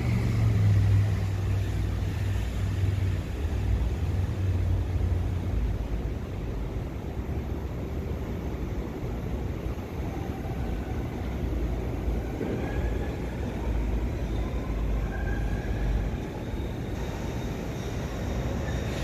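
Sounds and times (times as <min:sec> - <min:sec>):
electric train rumbling: 0:00.0 - 0:19.0
faint train whine: 0:00.0 - 0:19.0.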